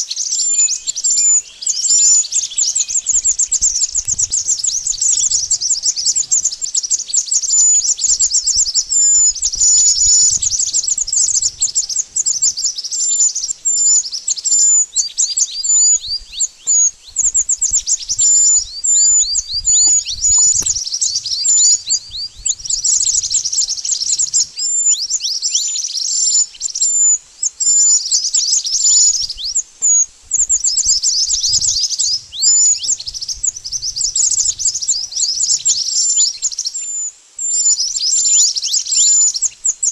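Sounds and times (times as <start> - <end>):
bird song high-pitched chirps: 0.0 - 39.9.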